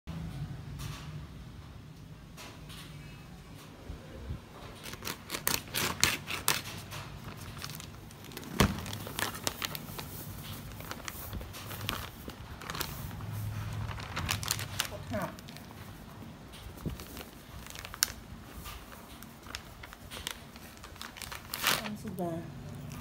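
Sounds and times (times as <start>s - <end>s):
plastic bag crinkling: 4.6s - 23.0s.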